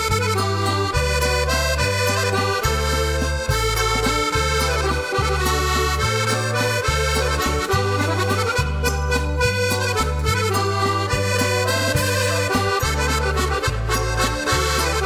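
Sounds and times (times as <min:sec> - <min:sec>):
accordion music: 0:00.0 - 0:15.0.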